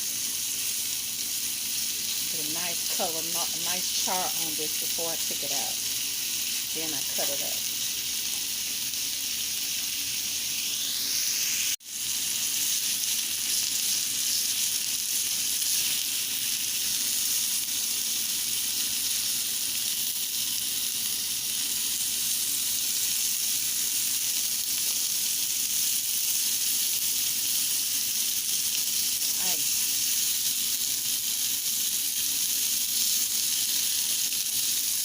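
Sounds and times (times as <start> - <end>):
chicken sizzling in a hot pan: 0.0 - 35.0.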